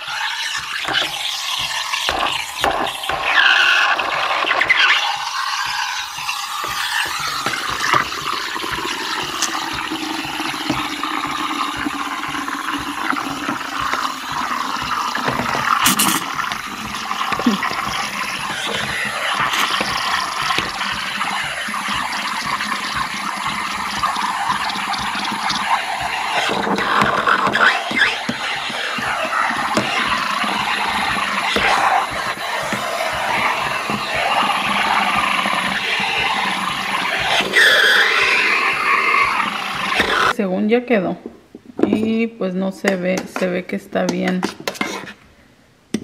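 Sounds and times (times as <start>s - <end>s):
steam wand hissing and gurgling: 0.0s - 40.4s.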